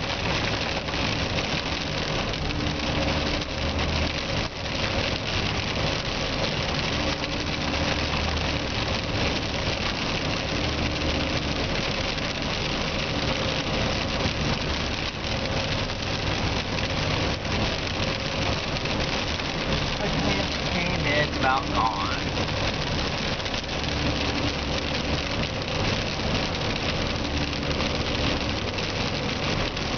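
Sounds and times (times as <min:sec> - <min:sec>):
car engine hum: 0:00.0 - 0:29.9
tyres on wet road: 0:00.0 - 0:29.9.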